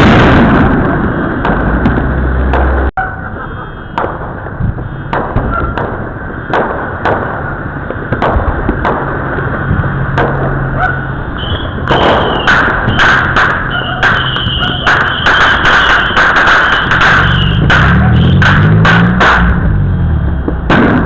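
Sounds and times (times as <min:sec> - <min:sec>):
fireworks bangs and pops: 0:00.0 - 0:21.0.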